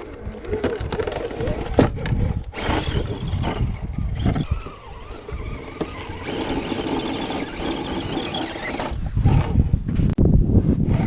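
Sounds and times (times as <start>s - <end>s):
electric motor and gears whining: 0.0s - 9.8s.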